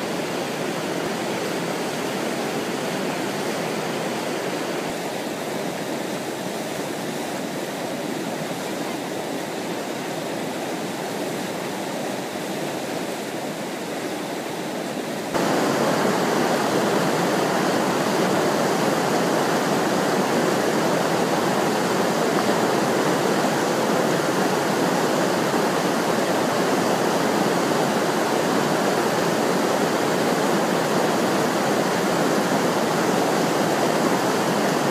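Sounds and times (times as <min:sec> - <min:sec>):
whitewater rushing: 0:00.0 - 0:34.9.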